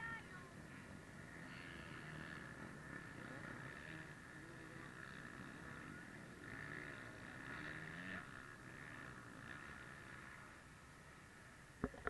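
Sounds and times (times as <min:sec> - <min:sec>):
distant off-road motorcycle engines: 0:00.0 - 0:12.0.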